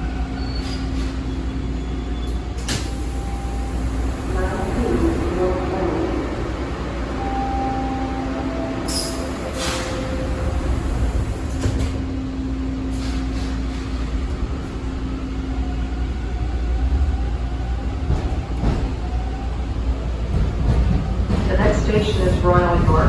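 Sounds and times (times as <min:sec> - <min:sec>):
steady train hum: 0:00.0 - 0:23.0.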